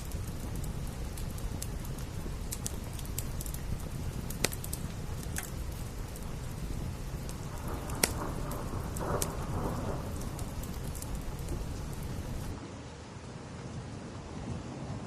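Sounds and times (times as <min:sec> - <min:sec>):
low rumble: 0:00.0 - 0:12.6
wood fire popping: 0:00.0 - 0:12.6
steady rain: 0:00.0 - 0:15.0.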